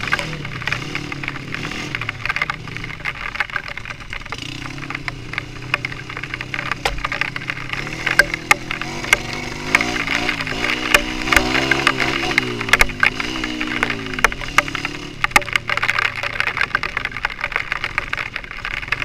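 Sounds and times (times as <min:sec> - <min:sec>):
sharp clicks and crackles: 0:00.0 - 0:19.0
vehicle engine running: 0:00.0 - 0:19.0.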